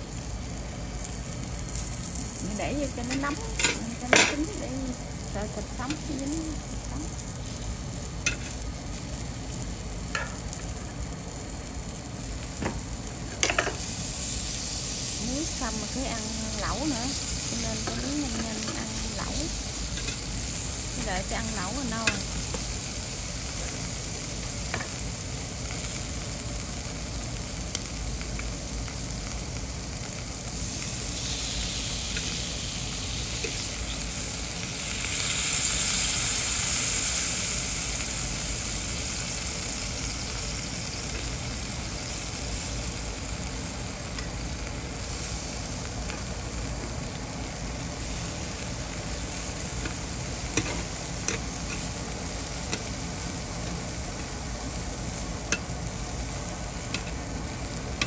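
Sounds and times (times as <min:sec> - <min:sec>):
meat sizzling on a grill: 0:00.0 - 0:58.0.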